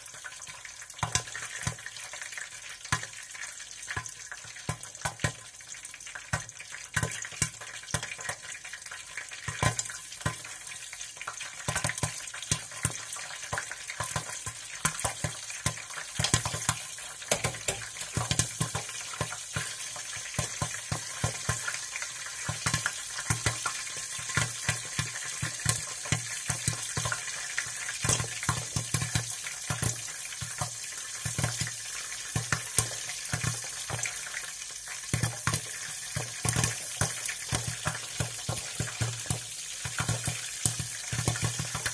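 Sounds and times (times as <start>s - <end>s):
boiler crackling and sizzling: 0.0s - 41.9s.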